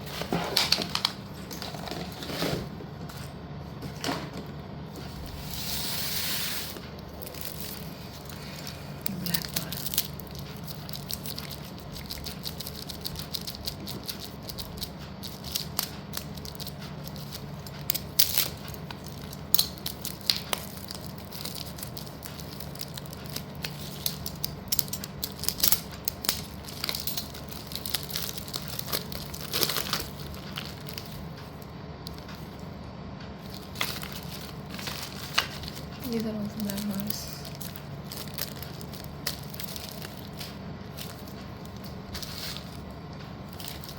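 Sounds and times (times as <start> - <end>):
steady low hum: 0.0 - 43.9
packaging crinkling: 5.2 - 32.8, 33.4 - 43.9.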